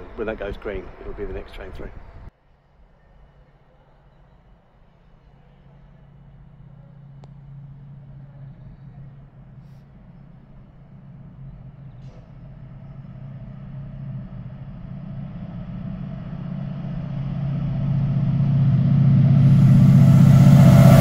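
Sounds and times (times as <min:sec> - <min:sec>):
locomotive engine hum: 0:00.0 - 0:02.3, 0:03.6 - 0:21.0.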